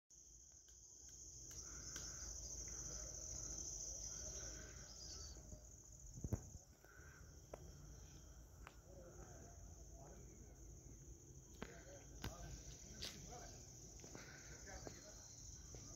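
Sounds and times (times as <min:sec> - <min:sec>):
crickets chirring: 0:00.1 - 0:15.9.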